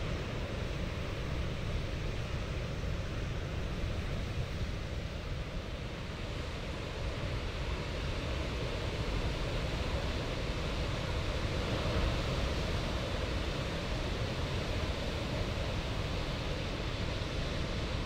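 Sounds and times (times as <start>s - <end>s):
ocean surf on a beach: 0.0s - 18.0s
wind: 0.0s - 18.0s.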